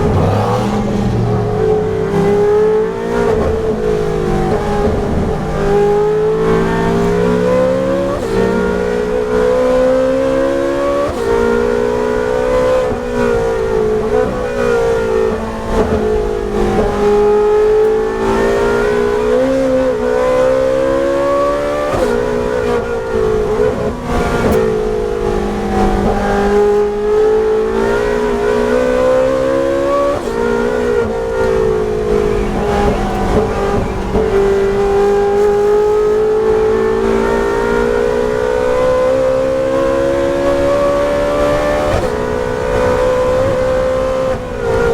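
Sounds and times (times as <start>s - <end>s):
racing engine revving through gears: 0.0s - 44.9s.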